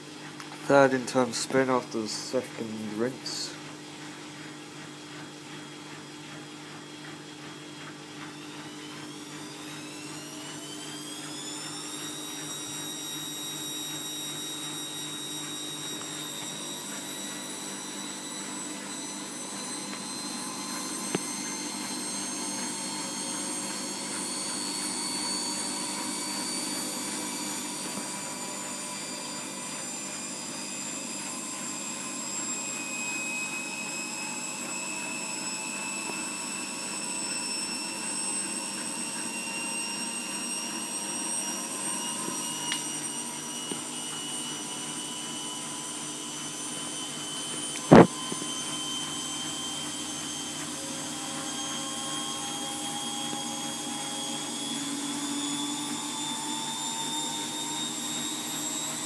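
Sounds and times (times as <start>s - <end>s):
washing machine motor whine: 0.0s - 59.0s.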